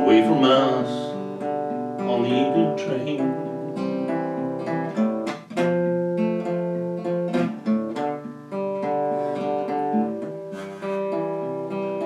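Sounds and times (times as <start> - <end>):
acoustic guitar strumming and picking: 0.0 - 12.0.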